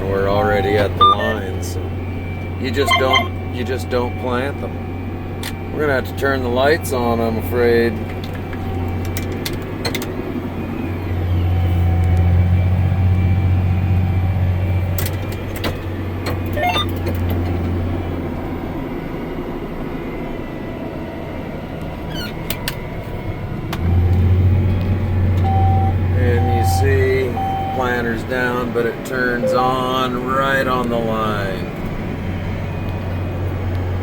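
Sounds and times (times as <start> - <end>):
tractor engine drone: 0.0 - 34.0.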